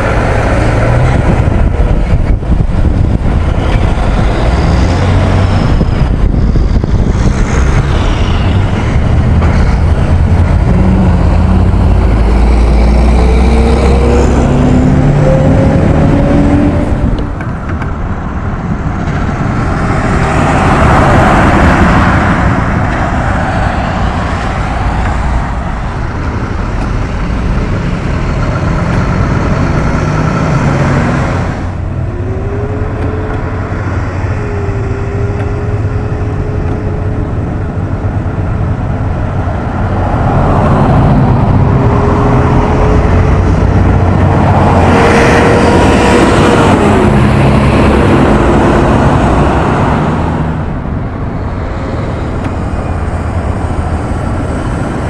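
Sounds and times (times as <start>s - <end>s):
diesel truck engines accelerating: 0.0s - 55.0s
road noise of passing truck: 0.0s - 55.0s.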